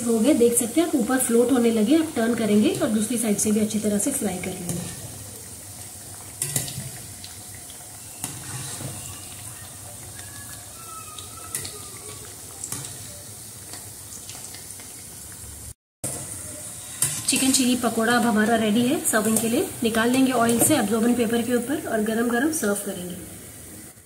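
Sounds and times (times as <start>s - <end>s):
food sizzling in deep-frying oil: 0.0s - 24.0s.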